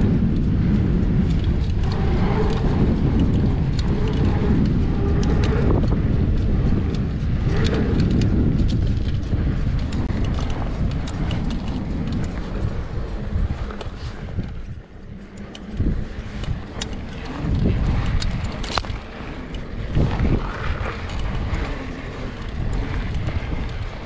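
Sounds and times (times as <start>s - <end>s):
bike tyres rolling on dirt: 0.0s - 24.0s
gravel and bike rattling: 0.0s - 24.0s
wind buffeting the microphone: 0.0s - 24.0s.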